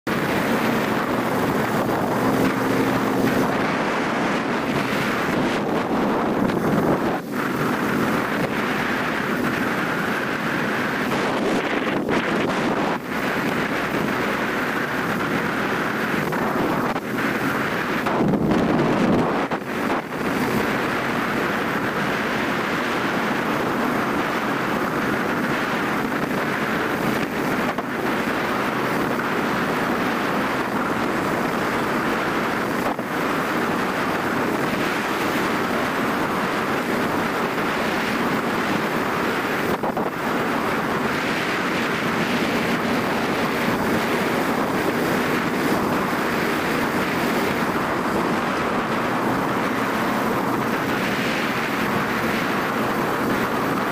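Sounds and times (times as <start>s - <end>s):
wind rushing across microphone: 0.0s - 53.9s.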